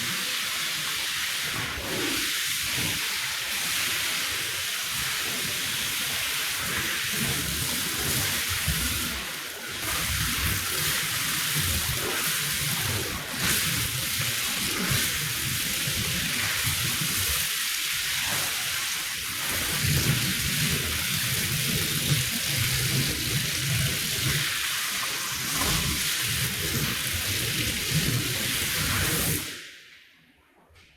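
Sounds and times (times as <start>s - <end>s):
water spraying on rug: 0.0s - 29.7s.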